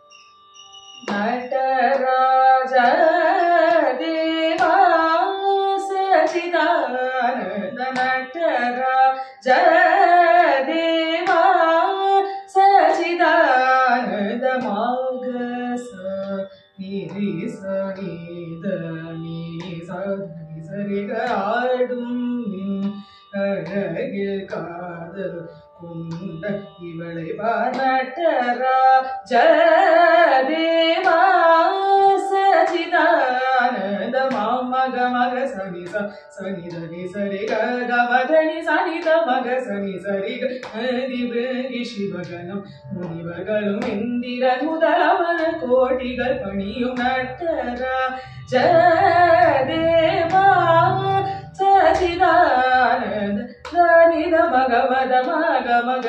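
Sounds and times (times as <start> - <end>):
woman singing ornamented notes: 0.0 - 56.0.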